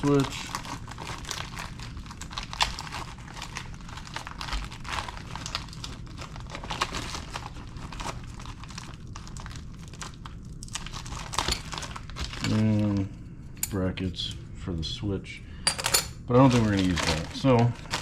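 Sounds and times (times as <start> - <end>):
plastic packaging crinkling: 0.0 - 13.1, 16.4 - 18.0.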